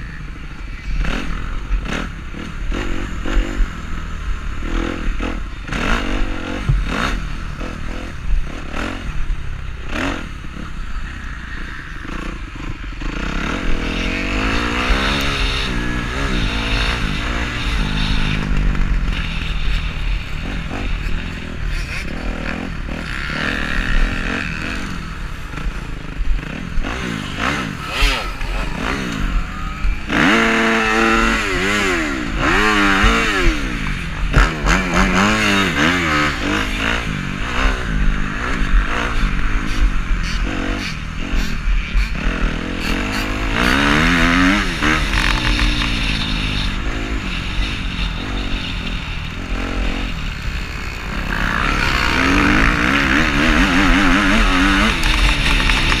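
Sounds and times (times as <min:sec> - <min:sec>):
dirt bike engine revving: 0:00.0 - 0:56.0
low wind rumble: 0:00.0 - 0:56.0
other dirt bikes running: 0:00.0 - 0:56.0.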